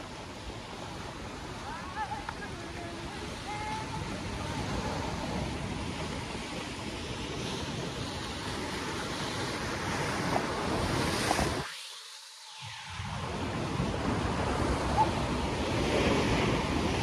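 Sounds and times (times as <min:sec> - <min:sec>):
wind on microphone: 0:00.0 - 0:11.8, 0:12.5 - 0:17.0
surf and churning water: 0:00.0 - 0:17.0.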